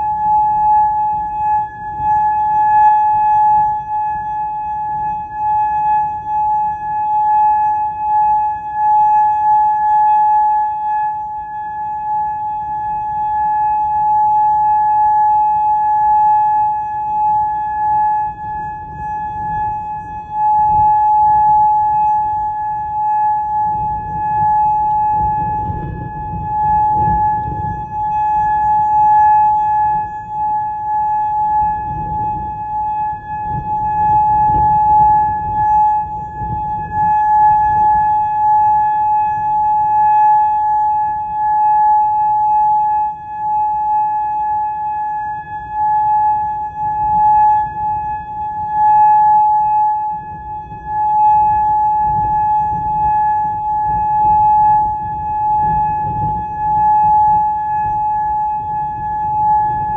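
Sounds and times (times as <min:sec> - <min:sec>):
warning siren steady tone: 0:00.0 - 0:59.9
wind rumbling on microphone: 0:00.0 - 0:59.9.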